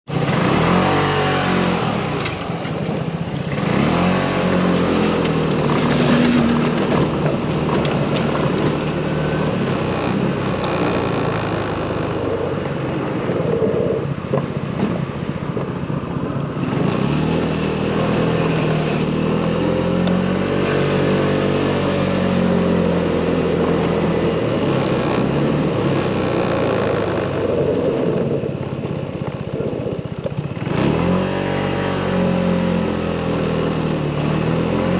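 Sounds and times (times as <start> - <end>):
motorcycle engine accelerating: 0.0 - 34.9
wind and road noise: 0.0 - 34.9.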